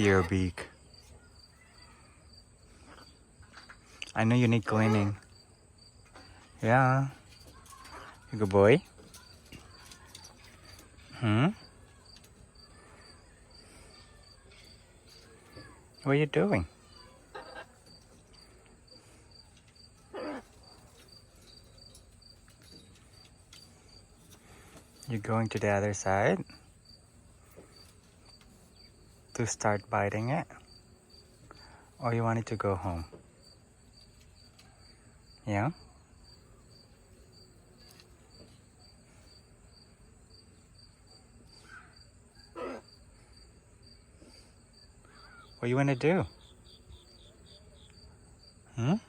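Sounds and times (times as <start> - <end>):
crickets chirping: 0.0 - 49.0.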